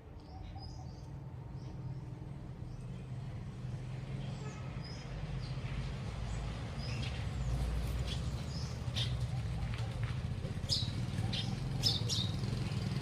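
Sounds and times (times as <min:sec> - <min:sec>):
small birds chirping: 0:00.0 - 0:03.6, 0:04.2 - 0:13.0.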